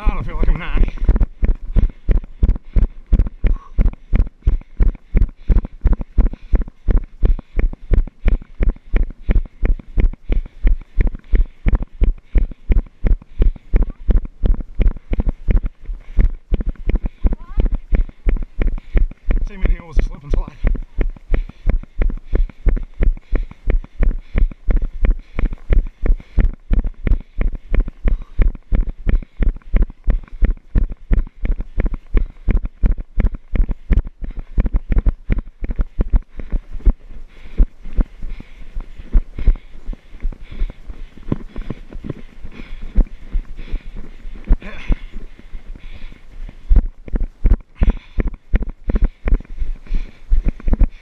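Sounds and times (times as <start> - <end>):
running footsteps on pavement: 0.0 - 51.0.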